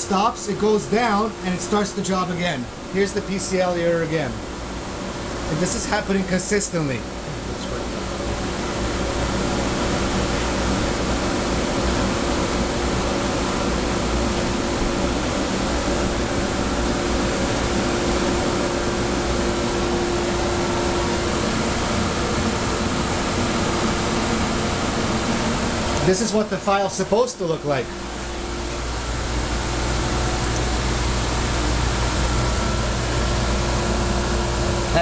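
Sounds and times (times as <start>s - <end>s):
faint steady hum: 0.0s - 35.0s
ventilation fan noise: 0.0s - 35.0s.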